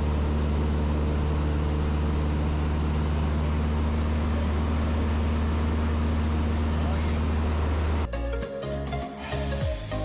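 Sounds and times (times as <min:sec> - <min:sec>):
light aircraft engine drone: 0:00.0 - 0:08.1.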